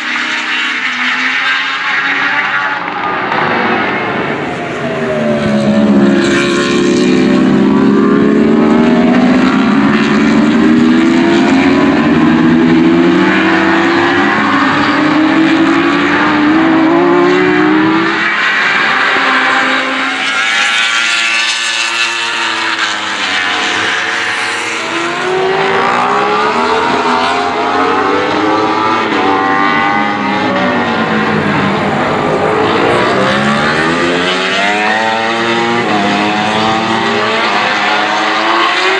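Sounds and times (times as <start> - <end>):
superbike engines at full throttle: 3.1 - 18.1, 18.9 - 27.2, 28.6 - 38.9.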